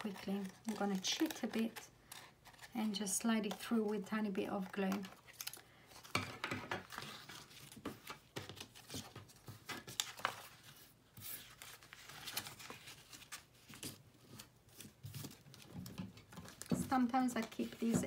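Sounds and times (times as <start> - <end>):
paper rustling: 0.0 - 18.0.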